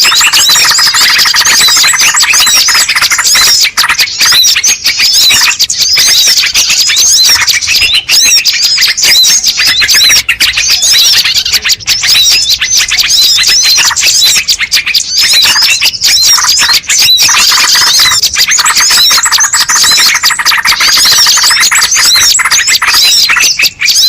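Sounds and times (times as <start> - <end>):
harsh buzzy bird chatter: 0.0 - 24.0
songbirds twittering: 0.0 - 24.0.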